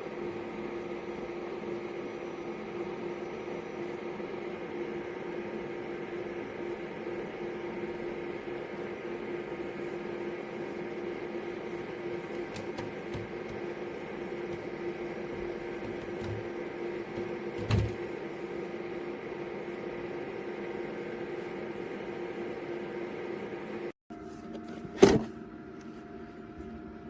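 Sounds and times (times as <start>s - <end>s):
dehumidifier fan humming: 0.0s - 23.9s.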